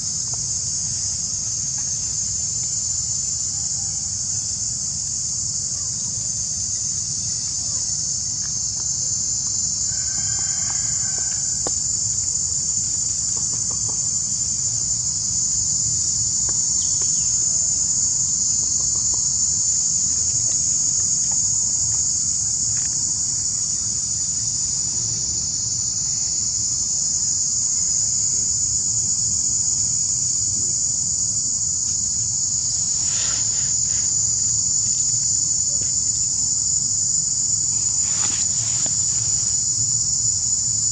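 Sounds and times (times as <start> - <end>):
insect chorus shrilling: 0.0 - 40.9.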